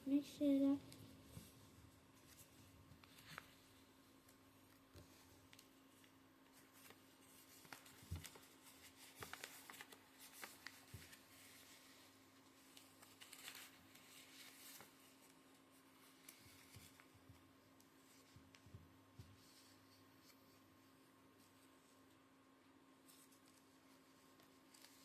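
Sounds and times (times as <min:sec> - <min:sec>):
paper rustling and crinkling: 0:00.1 - 0:20.6, 0:23.0 - 0:25.0.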